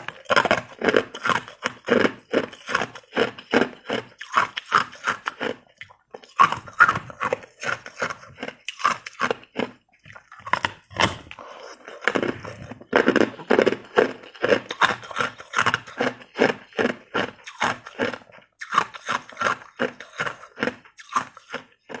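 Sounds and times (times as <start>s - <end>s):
ice crunching being chewed: 0.0s - 22.0s.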